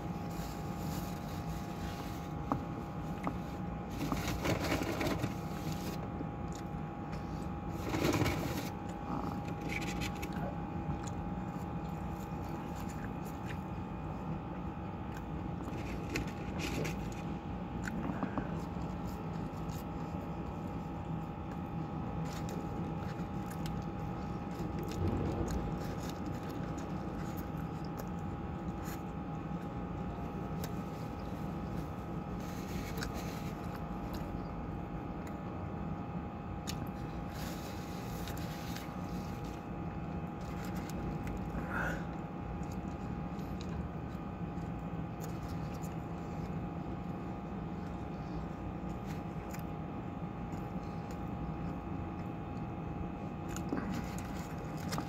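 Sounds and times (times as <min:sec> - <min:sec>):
low hum: 0:00.0 - 0:55.0
person chewing food: 0:00.1 - 0:55.0.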